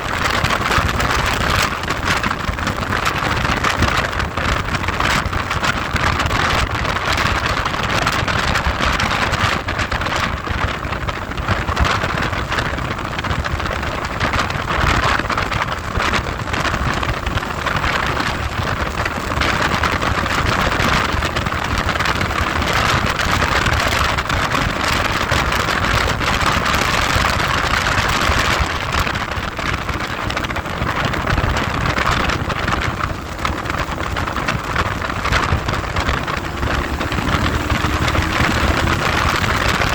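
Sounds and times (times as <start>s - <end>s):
motorcycle engine rumble: 0.0s - 39.9s
wind noise on microphone: 0.0s - 39.9s.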